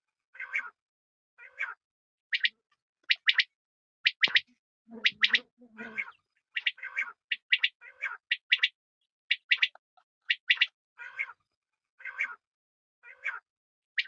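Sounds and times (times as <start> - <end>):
quail calling: 0.4 - 0.8, 1.4 - 11.4, 12.0 - 12.4, 13.0 - 14.0.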